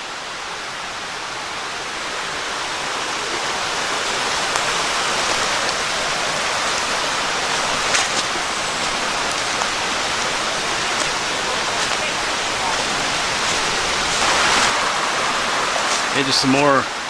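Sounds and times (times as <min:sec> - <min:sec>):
creek water flowing over rocks: 0:00.0 - 0:17.0.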